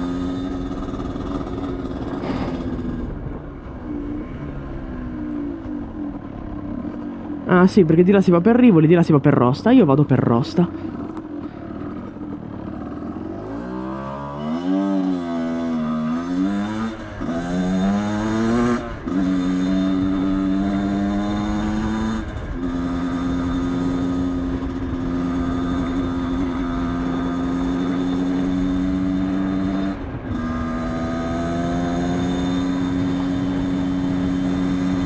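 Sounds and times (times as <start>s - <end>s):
two-stroke motorcycle engine: 0.0s - 7.7s, 9.8s - 35.0s.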